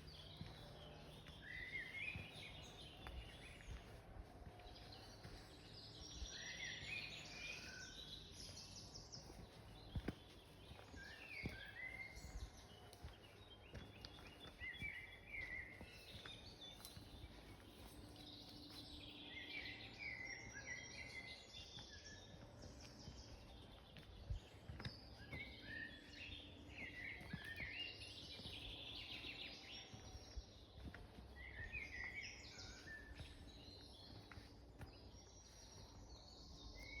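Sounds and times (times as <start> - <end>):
small birds chirping and twittering: 0.0 - 37.0.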